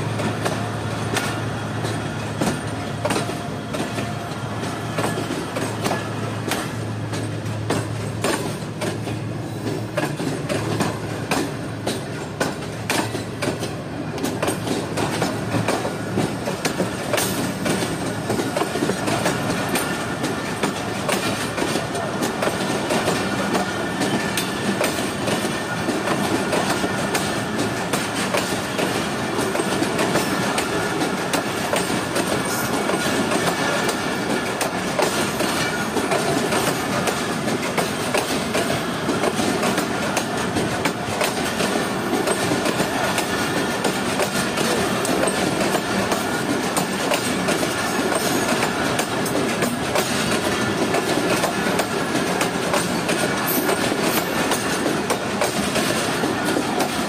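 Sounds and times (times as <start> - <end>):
train wheels clattering over joints: 0.0 - 57.0.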